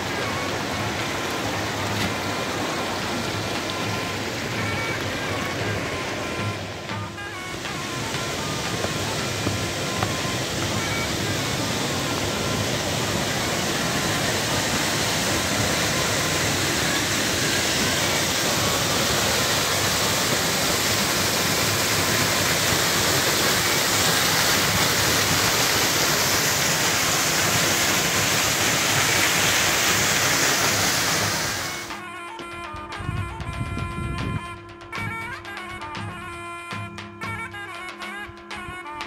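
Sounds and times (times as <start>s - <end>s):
waterfall roaring: 0.0s - 32.0s.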